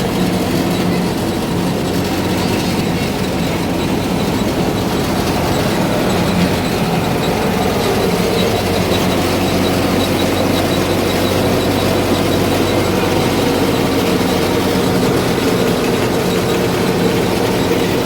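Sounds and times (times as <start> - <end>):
thresher mechanical clatter: 0.0 - 18.0
tractor diesel engine running: 0.0 - 18.0.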